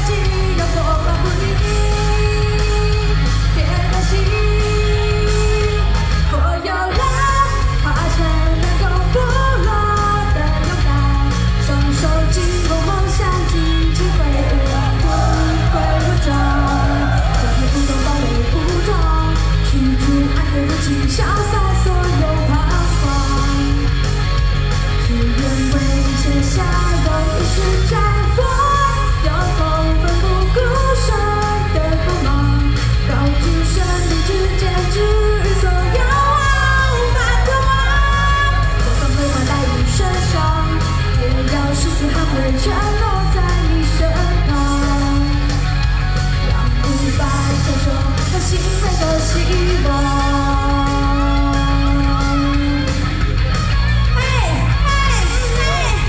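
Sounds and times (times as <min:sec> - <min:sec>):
woman singing into microphone: 0:00.0 - 0:24.0, 0:25.0 - 0:45.7, 0:46.5 - 0:53.2
pop-rock backing music: 0:00.0 - 0:56.0.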